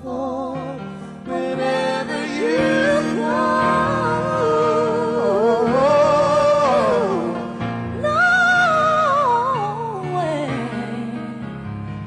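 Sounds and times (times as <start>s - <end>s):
woman singing a slow ballad: 0.0s - 11.5s
soft musical accompaniment: 0.0s - 12.0s.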